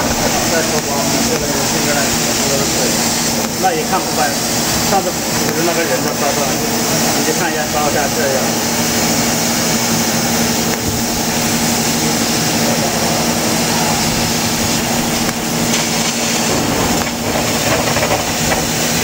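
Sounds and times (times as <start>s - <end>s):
air hissing: 0.0s - 19.0s
laser cutting machine humming: 0.0s - 19.0s.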